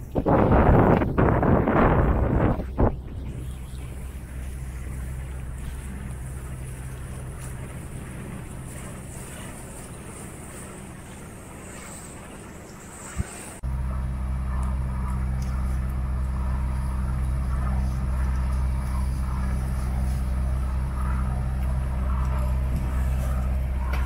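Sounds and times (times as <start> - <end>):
engine low drone: 0.0 - 24.0
water noise: 0.0 - 24.0
wind: 0.0 - 24.0.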